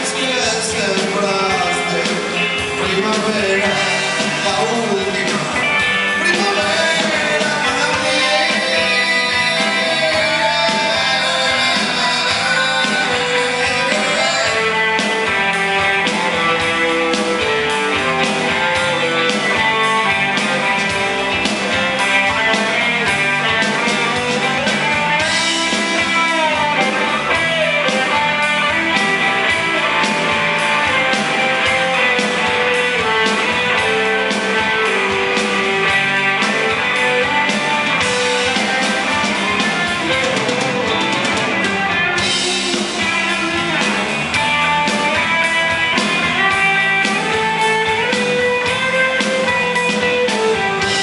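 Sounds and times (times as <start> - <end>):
drums keeping a steady beat: 0.0 - 51.0
rock band playing: 0.0 - 51.0.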